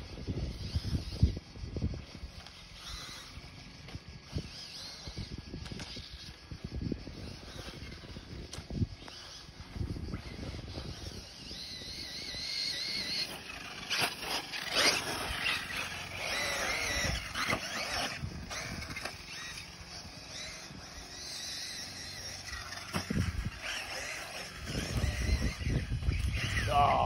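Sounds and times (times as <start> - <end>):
toy buggy motor whine: 0.0 - 27.0.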